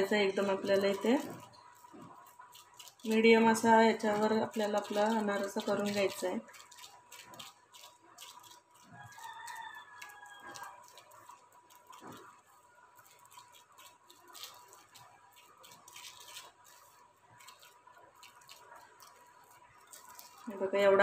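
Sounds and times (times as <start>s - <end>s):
plastic sheet crinkling: 0.0s - 20.9s.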